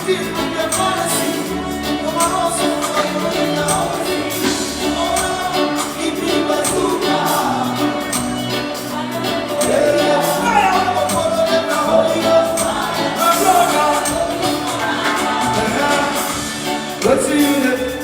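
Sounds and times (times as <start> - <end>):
live band music with singing: 0.0 - 18.0
steady drum beat: 0.0 - 18.0.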